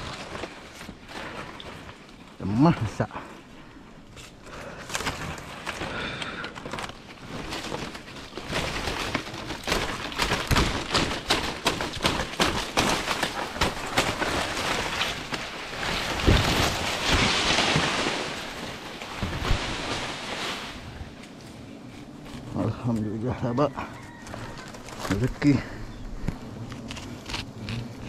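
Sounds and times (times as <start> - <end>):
leaves rustling and crackling: 0.0 - 28.0.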